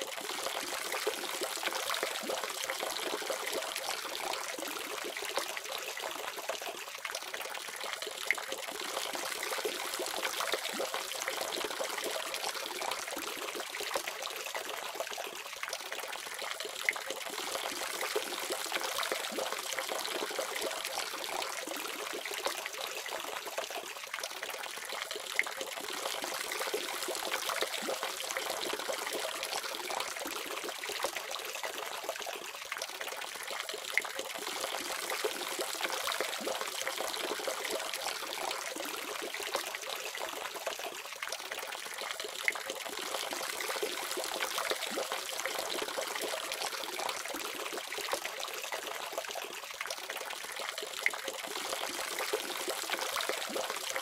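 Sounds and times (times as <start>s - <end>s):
water drips and splashes: 0.0s - 54.0s.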